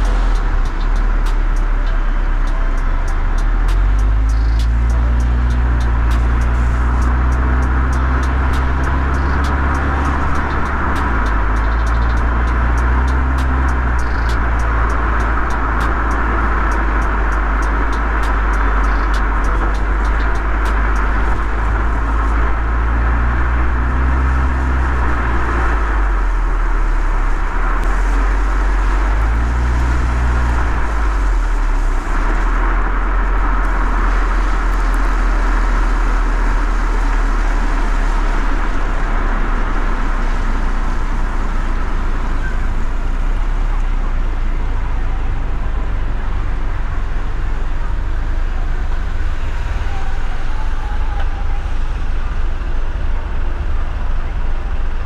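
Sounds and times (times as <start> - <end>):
engine hum: 0.0 - 55.0
road rumble: 0.0 - 55.0
surrounding traffic: 0.0 - 55.0
tyres hissing on wet road: 0.0 - 55.0.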